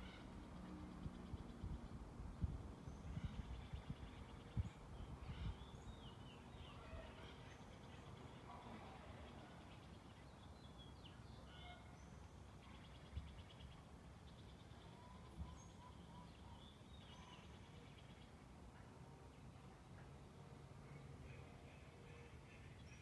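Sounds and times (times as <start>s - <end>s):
distant birds chirping and trilling: 0.0s - 23.0s.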